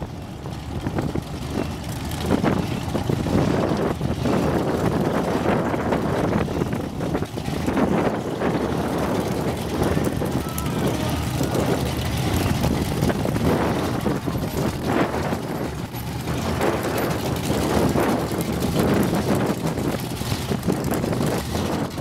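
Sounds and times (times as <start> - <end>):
many car engines running: 0.0 - 22.0
wind on microphone: 0.0 - 22.0.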